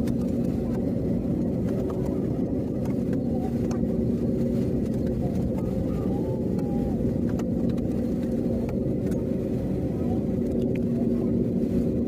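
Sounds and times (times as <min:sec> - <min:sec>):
aircraft engines rumbling in cabin: 0:00.0 - 0:12.0
constant hum tone: 0:00.0 - 0:12.0.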